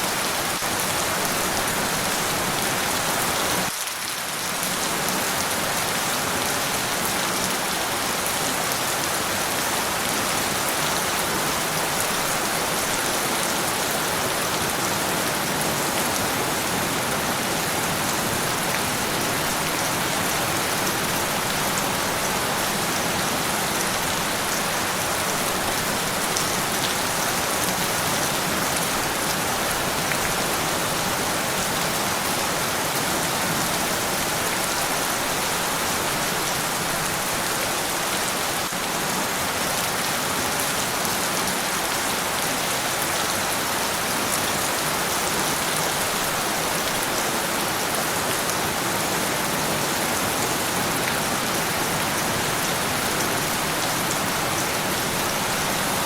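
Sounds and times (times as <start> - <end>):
steady dense rainfall: 0.0 - 56.0.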